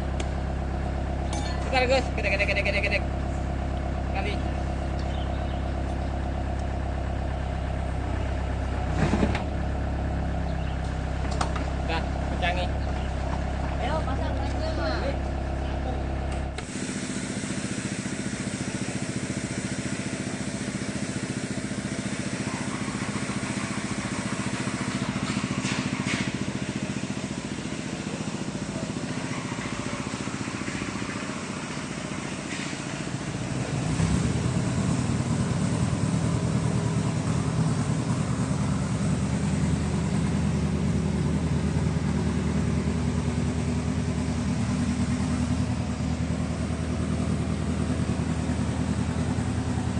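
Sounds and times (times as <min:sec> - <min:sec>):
engine knocks: 0:00.0 - 0:16.7, 0:20.2 - 0:49.9
excavator diesel engine running: 0:00.0 - 0:49.9.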